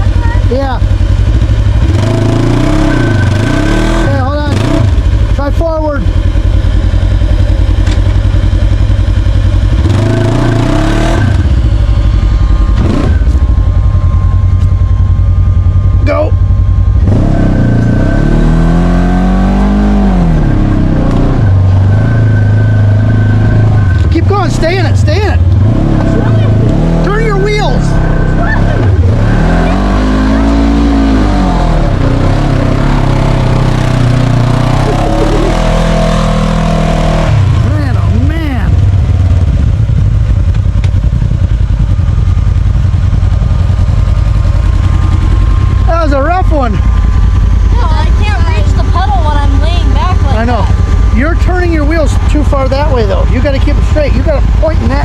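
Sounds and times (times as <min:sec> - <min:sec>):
utility vehicle engine under load: 0:00.0 - 0:55.0.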